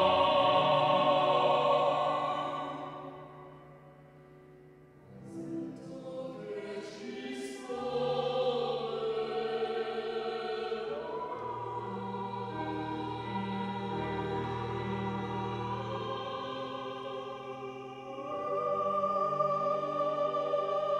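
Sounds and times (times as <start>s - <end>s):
vocal ensemble singing in harmony: 0.0s - 3.6s, 5.4s - 20.9s.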